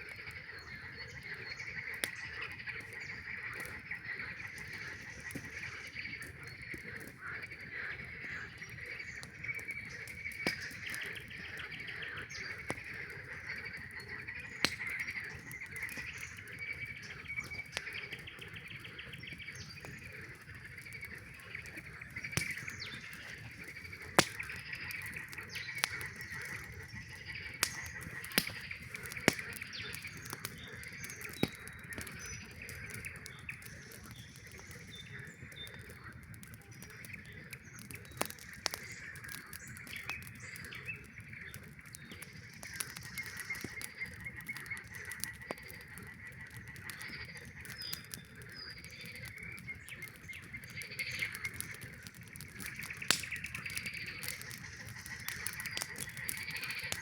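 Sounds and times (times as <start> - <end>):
campfire crackling and popping: 0.0 - 57.0
frogs calling: 0.1 - 57.0.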